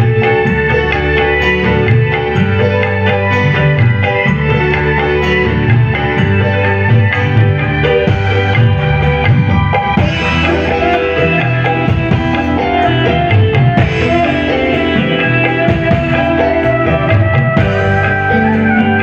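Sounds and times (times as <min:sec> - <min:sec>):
electric guitar lines: 0:00.0 - 0:19.0
hand drum: 0:00.0 - 0:19.0
live band playing: 0:00.0 - 0:19.0.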